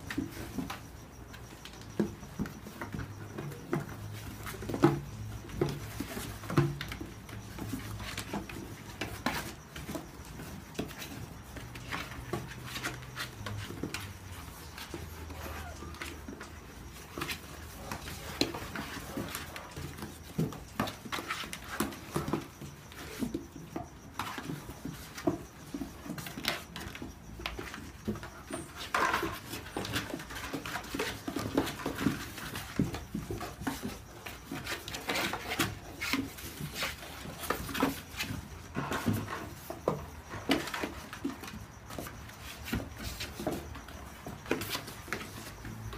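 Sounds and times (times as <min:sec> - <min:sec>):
puppies scrabbling on cardboard: 0:00.0 - 0:45.9.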